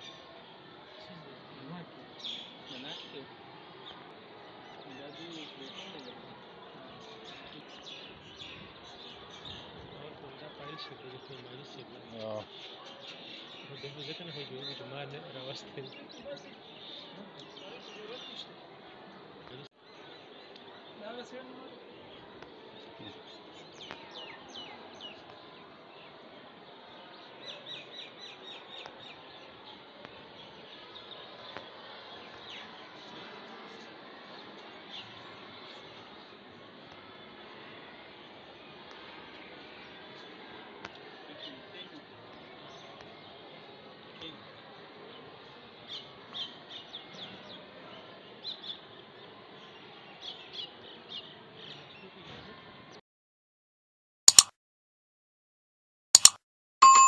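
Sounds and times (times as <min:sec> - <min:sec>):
faint outdoor background: 0:00.0 - 0:53.0, 0:56.2 - 0:57.0.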